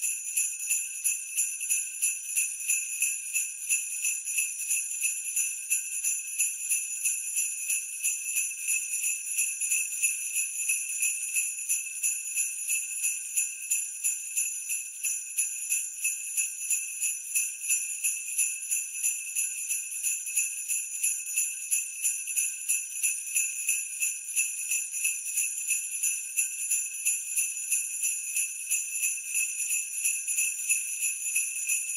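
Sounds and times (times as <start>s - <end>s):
sleigh bells jingling: 0.0s - 31.9s.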